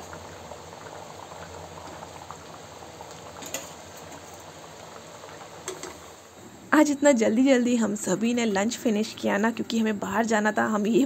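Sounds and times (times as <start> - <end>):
curry bubbling at a boil: 0.0 - 11.0.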